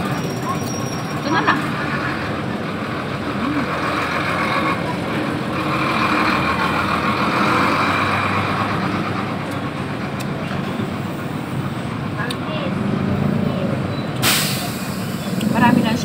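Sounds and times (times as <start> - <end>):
passing road traffic: 0.0 - 16.0.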